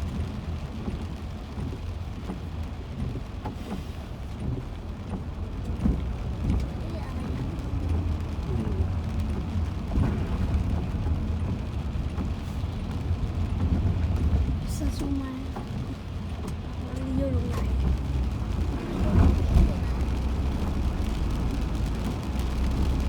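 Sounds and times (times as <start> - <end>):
car road noise rumble: 0.0 - 23.0.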